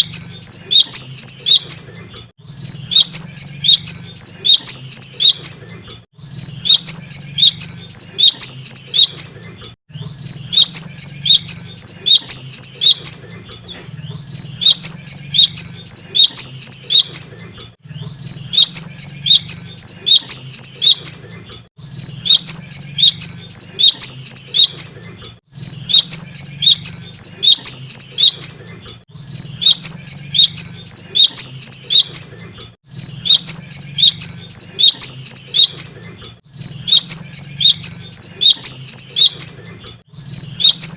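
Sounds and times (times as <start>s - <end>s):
bird singing rapid high chirps: 0.0s - 40.9s.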